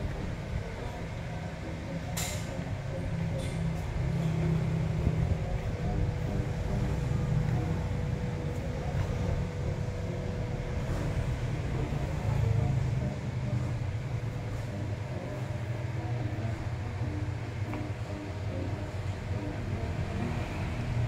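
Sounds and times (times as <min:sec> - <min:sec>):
faint steady hum: 0:00.0 - 0:21.0
low mechanical rumble: 0:00.0 - 0:21.0.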